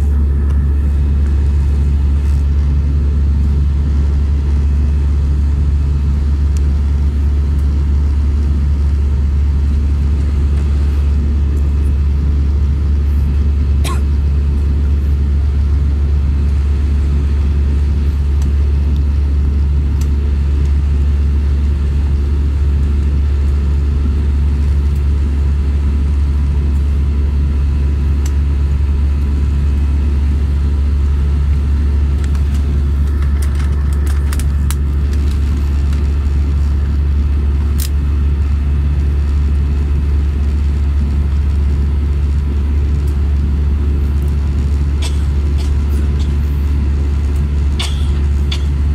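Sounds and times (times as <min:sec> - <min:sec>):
aircraft cabin engine rumble: 0:00.0 - 0:48.9.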